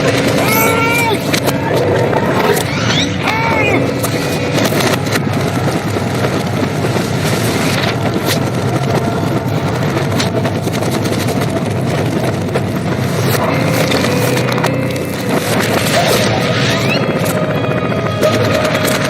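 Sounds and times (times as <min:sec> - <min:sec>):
engine and helicopter rumble: 0:00.0 - 0:19.0.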